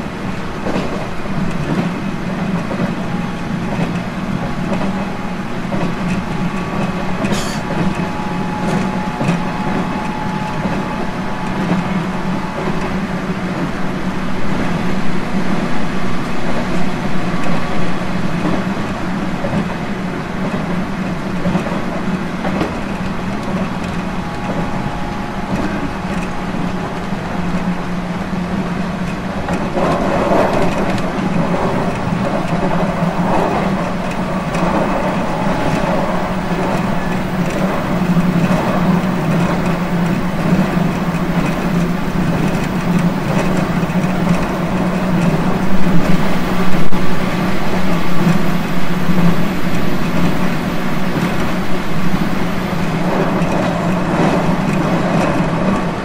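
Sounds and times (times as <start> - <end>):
train motor hum: 0.0 - 56.0
wheel-on-rail rumble: 0.0 - 56.0.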